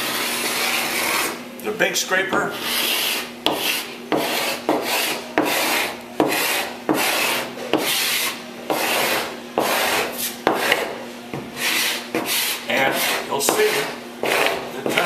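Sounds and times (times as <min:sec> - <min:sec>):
hand scraper scraping paint off wood: 0:02.5 - 0:15.0.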